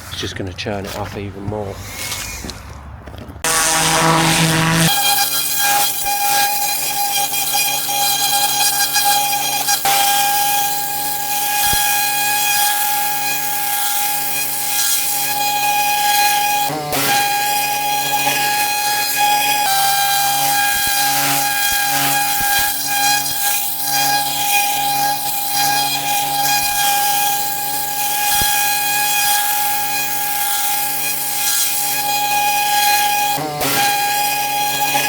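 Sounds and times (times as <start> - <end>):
pressure washer machine whine: 3.4 - 35.0.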